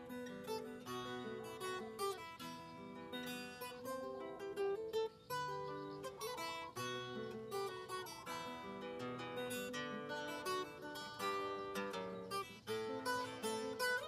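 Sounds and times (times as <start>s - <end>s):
acoustic guitar melody: 0.0s - 14.0s.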